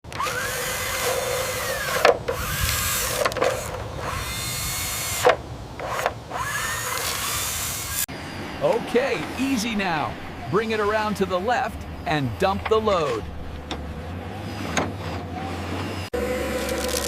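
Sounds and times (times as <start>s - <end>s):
excavator motor whine: 0.1s - 11.0s, 11.7s - 17.0s
gravel grinding: 0.1s - 17.0s.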